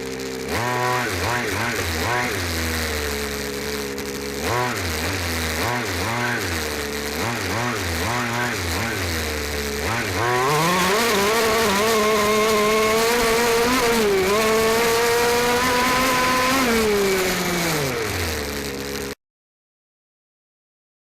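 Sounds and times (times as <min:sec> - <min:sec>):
small two-stroke engine revving: 0:00.0 - 0:19.2.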